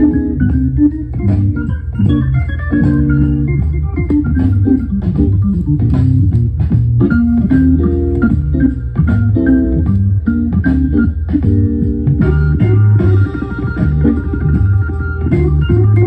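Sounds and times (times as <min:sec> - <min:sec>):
soul-jazz organ music from a record: 0:00.0 - 0:16.0.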